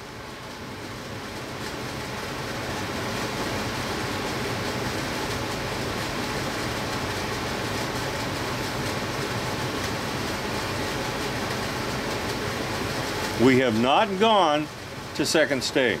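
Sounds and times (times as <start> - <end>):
furnace blower rushing: 0.0 - 16.0.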